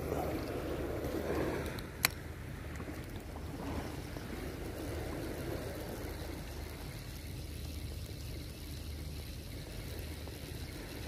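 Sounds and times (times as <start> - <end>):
gentle shallow seawater: 0.0 - 11.0
wind rumble on microphone: 0.0 - 11.0.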